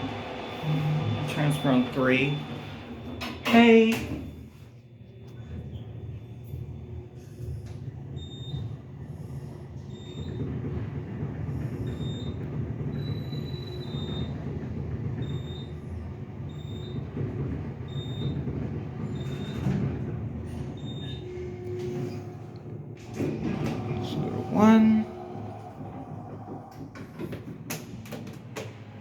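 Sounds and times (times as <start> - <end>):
elevator rumbling in shaft: 0.0 - 4.5, 5.3 - 29.0.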